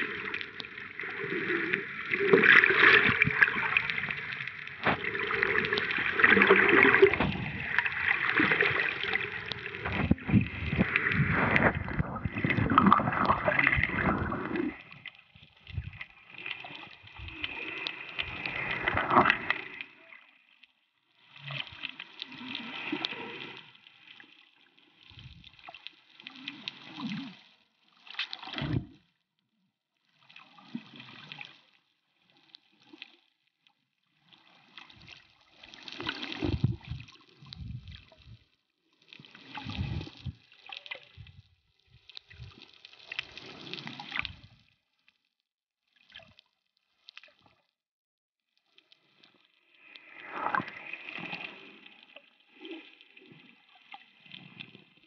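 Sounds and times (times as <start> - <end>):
underwater water surges: 0.0 - 20.6, 21.2 - 29.0, 34.2 - 44.7, 48.8 - 55.0.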